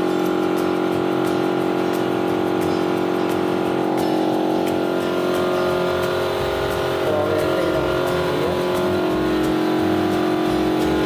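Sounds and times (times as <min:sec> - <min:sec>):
air compressor humming: 0:00.0 - 0:11.0
spray gun hissing: 0:00.0 - 0:11.0.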